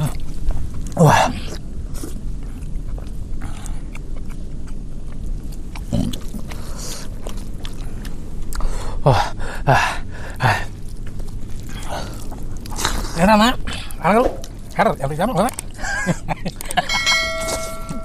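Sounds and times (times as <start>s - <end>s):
chewing and wet mouth smacks: 0.0s - 8.7s, 10.3s - 16.9s.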